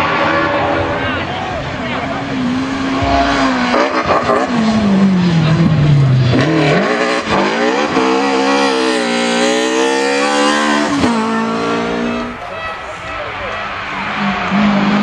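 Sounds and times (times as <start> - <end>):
rally car engine: 0.0 - 12.4, 13.7 - 15.0.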